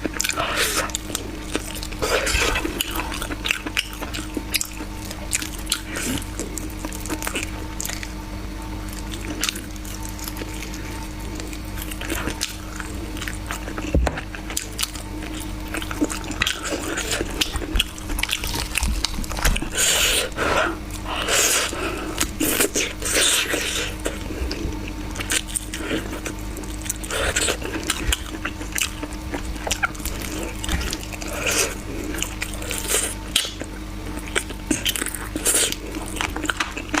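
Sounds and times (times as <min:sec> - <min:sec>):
wet chewing and lip smacking: 0:00.0 - 0:08.2, 0:08.8 - 0:37.0.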